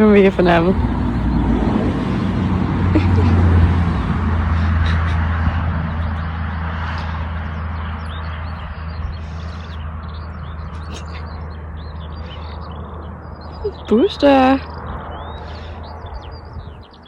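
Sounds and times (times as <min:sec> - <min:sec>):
small birds chirping: 0:00.0 - 0:03.3, 0:04.0 - 0:17.0
vehicle passing with low rumble: 0:00.0 - 0:17.0.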